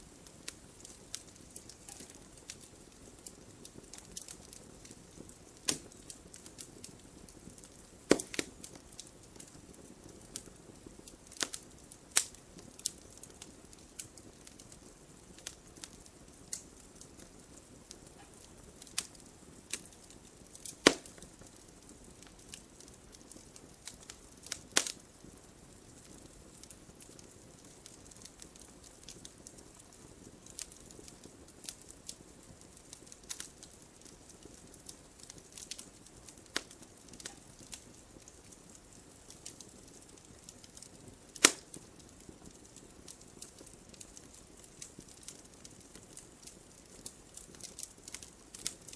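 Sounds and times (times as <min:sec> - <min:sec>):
sharp pops from burning logs: 0:00.0 - 0:48.9
wood fire crackling: 0:00.0 - 0:48.9.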